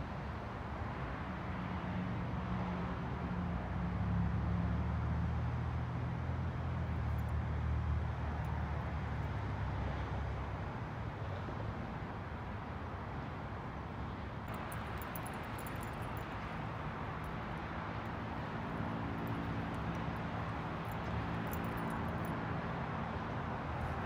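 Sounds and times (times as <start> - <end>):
vehicle rumbling: 1.9 - 24.0
vehicle hum: 2.4 - 24.0.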